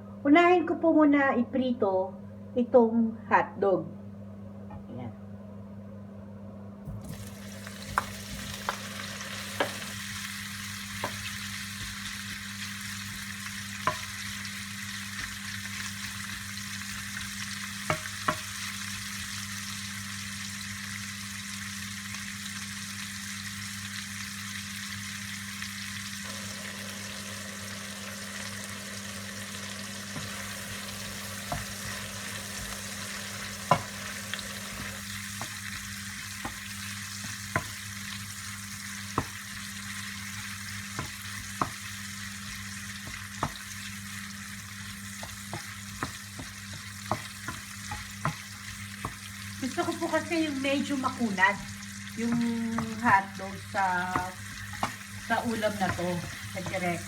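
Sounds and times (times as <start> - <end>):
hotdogs sizzling in oil: 6.9 - 57.0.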